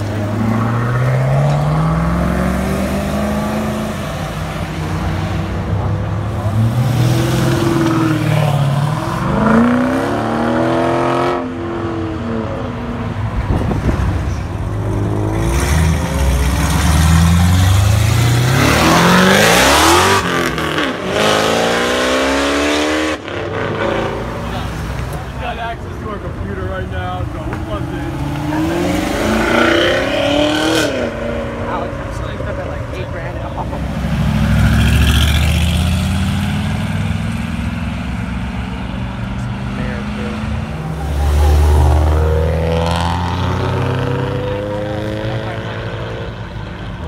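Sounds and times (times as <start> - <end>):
car engines accelerating hard: 0.0 - 47.0.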